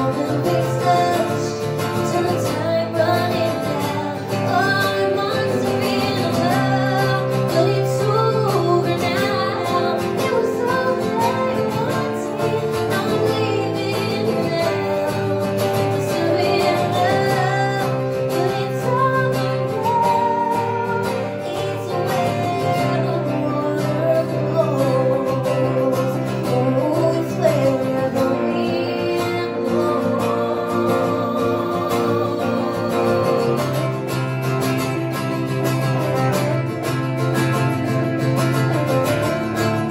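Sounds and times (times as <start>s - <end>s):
acoustic guitars playing: 0.0s - 39.9s
woman singing: 0.0s - 39.9s.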